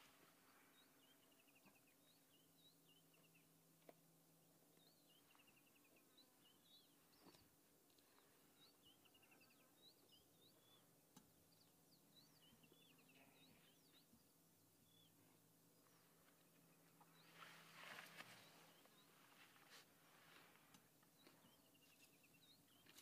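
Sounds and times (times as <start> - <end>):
birds chirping and trilling: 0.0 - 3.5, 4.7 - 10.9, 11.5 - 15.2, 15.8 - 23.0
low steady hum: 0.0 - 23.0.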